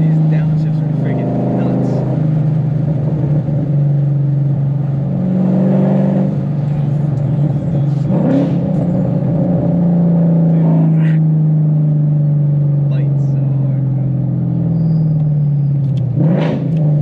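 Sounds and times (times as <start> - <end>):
car engine revving inside cabin: 0.0 - 17.0.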